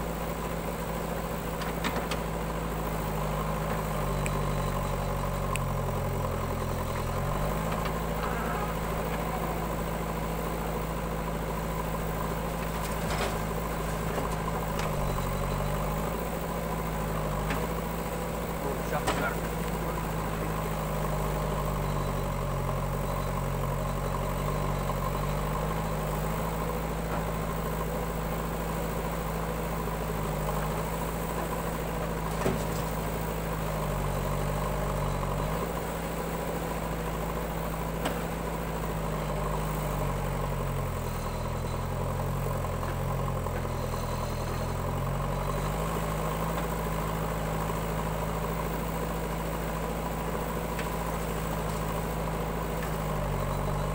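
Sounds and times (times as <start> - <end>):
diesel engines running: 0.0 - 53.9.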